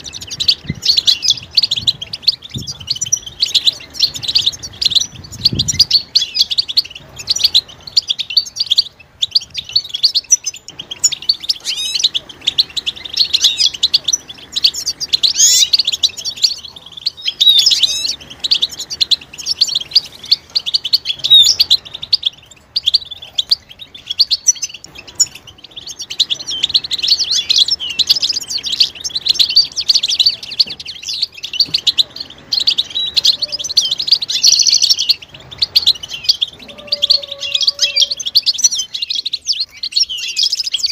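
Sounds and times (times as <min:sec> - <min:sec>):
finches twittering and chattering: 0:00.0 - 0:40.9.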